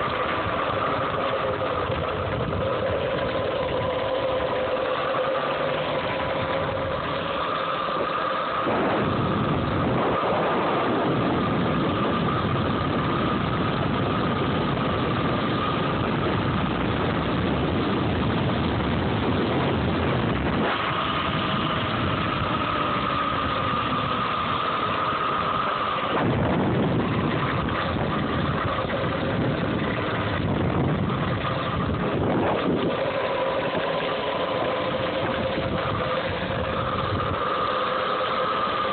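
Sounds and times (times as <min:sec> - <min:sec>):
electric motor whine: 0:00.0 - 0:38.9
loud rushing noise: 0:03.4 - 0:38.9.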